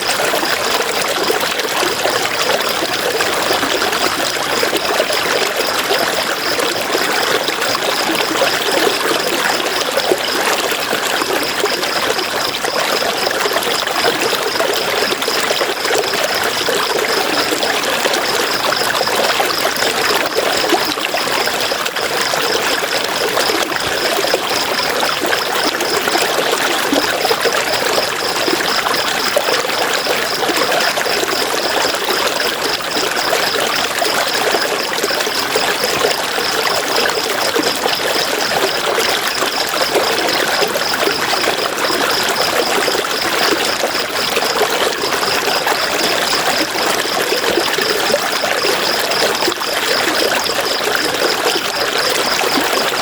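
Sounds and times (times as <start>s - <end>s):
river water over rocks: 0.0s - 53.0s.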